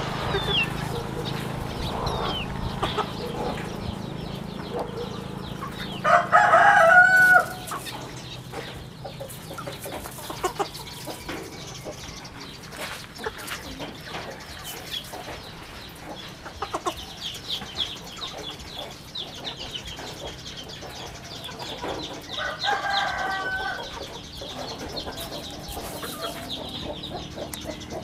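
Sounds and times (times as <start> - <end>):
chicks peeping and clucking: 0.0 - 28.0
drawn-out chicken call: 0.0 - 28.0.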